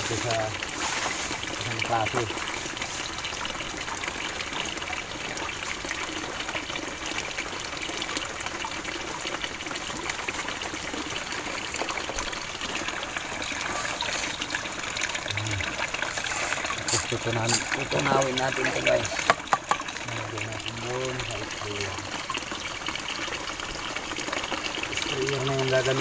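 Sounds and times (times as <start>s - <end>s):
stream water rushing and trickling: 0.0s - 26.0s.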